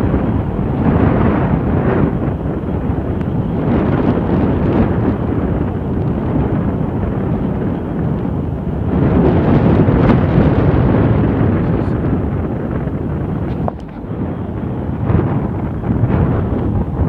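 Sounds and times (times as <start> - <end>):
jet engine rumble: 0.0 - 17.0
wind buffeting microphone: 0.0 - 17.0.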